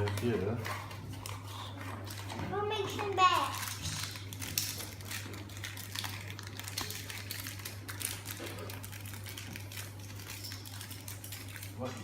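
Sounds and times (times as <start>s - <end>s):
low electrical hum: 0.0s - 12.0s
packaging rustling: 0.0s - 12.0s.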